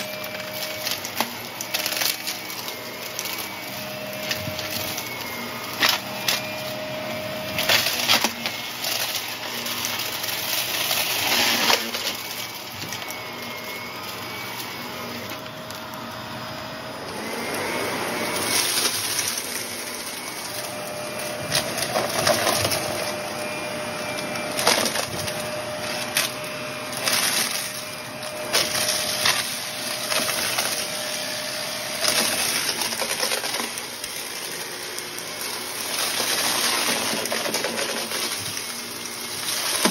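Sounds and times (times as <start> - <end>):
debris crunching in vacuum: 0.0 - 39.9
vacuum cleaner motor hum: 0.0 - 39.9.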